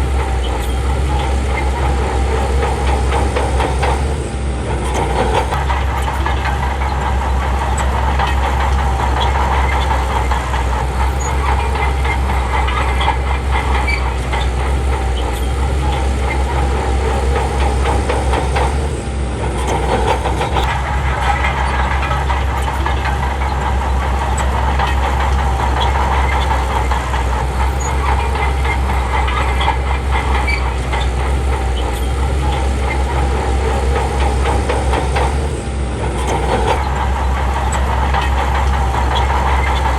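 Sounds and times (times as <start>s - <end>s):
diesel machinery engine drone: 0.0s - 39.9s
machinery clatter: 0.0s - 39.9s.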